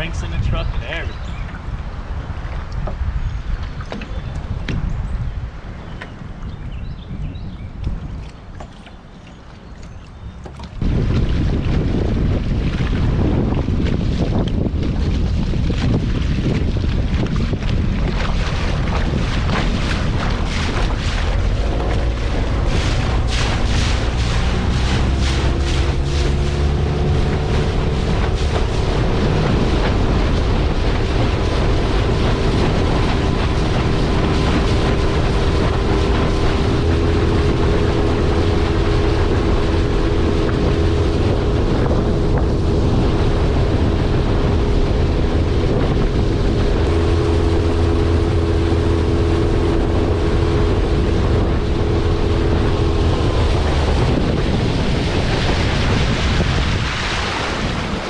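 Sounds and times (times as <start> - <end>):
boat motor running: 0.0 - 4.9, 7.8 - 58.0
wind rushing over microphone: 0.0 - 9.1, 9.7 - 58.0
water noise: 0.0 - 58.0.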